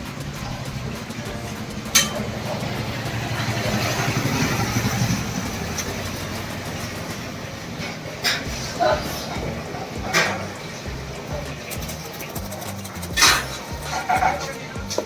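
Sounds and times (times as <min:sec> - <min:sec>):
motor pulsing hum: 0:00.0 - 0:15.0.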